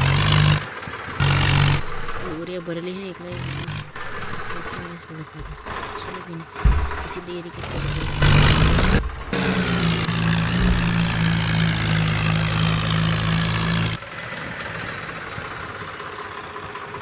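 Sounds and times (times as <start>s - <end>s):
faint engine hum: 0.0s - 17.0s
tractor engine running: 0.0s - 17.0s.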